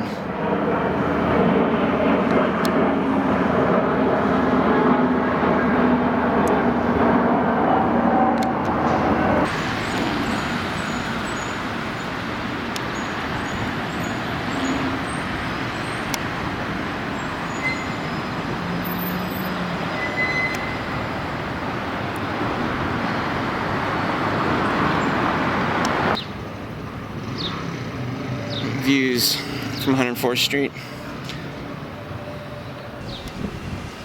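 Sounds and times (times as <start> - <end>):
loud engine hum: 0.0 - 34.0
road traffic: 0.0 - 34.0.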